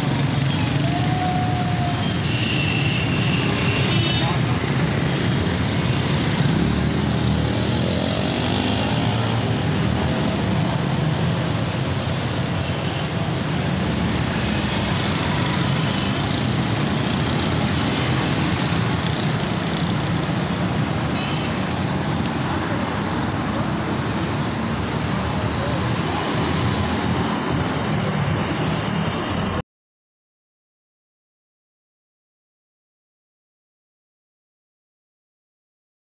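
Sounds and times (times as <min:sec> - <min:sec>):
passing traffic: 0:00.0 - 0:29.6.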